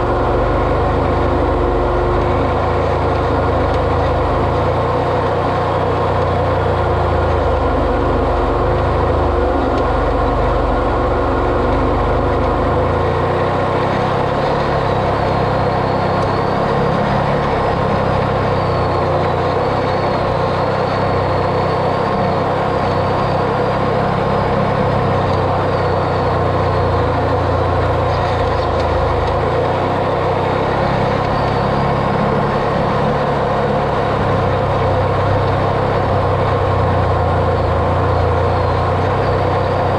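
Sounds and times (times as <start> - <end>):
off-road vehicle engine driving: 0.0 - 39.9.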